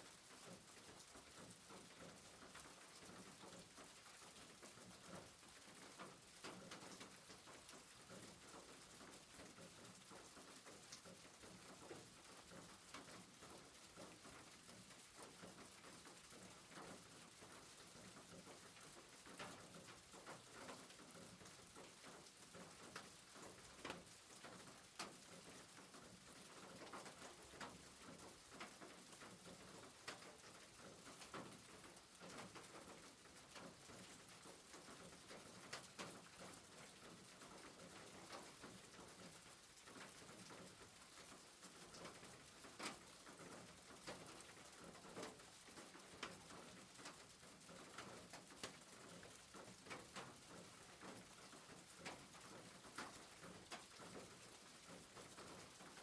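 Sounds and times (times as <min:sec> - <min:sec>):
soft rain on a rooftop: 0:00.0 - 0:56.0
raindrops ticking: 0:00.2 - 0:56.0.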